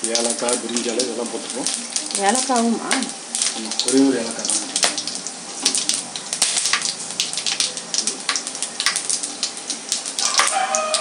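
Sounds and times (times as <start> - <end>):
crackles and pops: 0.0 - 11.0
spices sizzling in hot oil: 0.0 - 11.0.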